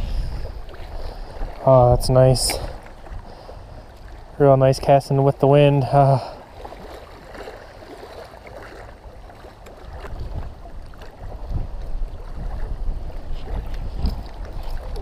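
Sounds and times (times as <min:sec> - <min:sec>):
wind buffeting microphone: 0:00.0 - 0:08.1, 0:08.7 - 0:15.0.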